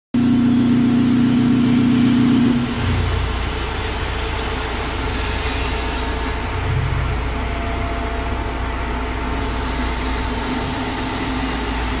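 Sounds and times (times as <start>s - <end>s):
machine hum: 0.2s - 12.0s.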